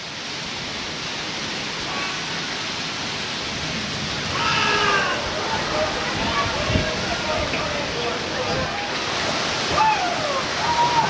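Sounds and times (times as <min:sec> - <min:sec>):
heavy rain: 0:00.0 - 0:11.0
wind: 0:00.0 - 0:11.0.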